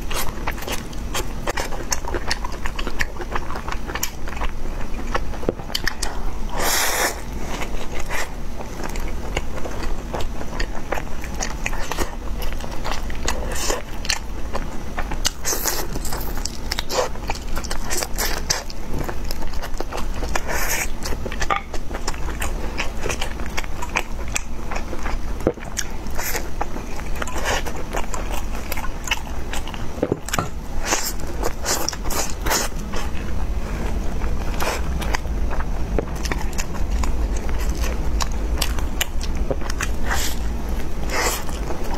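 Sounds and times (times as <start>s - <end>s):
biting and chewing: 0.0s - 41.9s.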